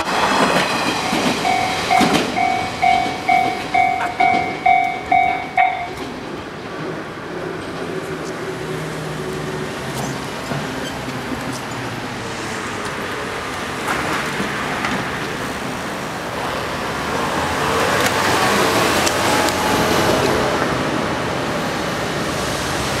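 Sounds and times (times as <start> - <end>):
passing electric train rumble: 0.0 - 23.0
street traffic noise: 0.0 - 23.0.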